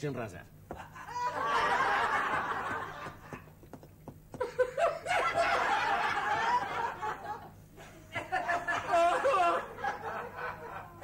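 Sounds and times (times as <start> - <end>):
audience laughter: 1.0 - 3.5, 4.4 - 11.0.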